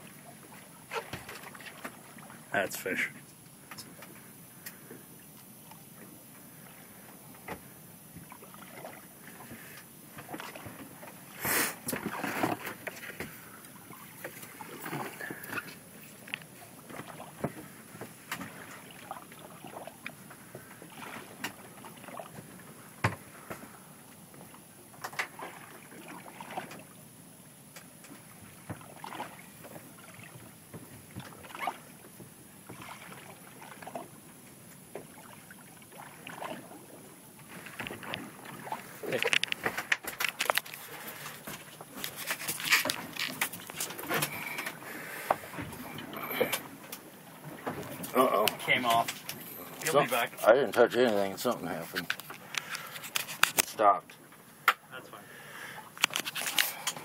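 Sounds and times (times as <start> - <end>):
water lapping against hull: 0.0 - 57.0.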